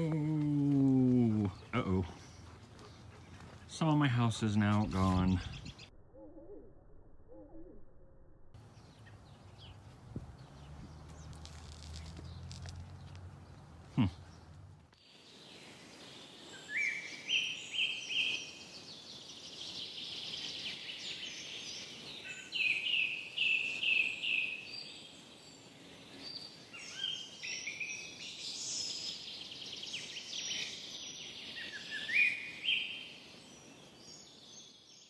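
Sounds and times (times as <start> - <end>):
birds chirping and trilling: 0.6 - 8.0, 8.6 - 35.0.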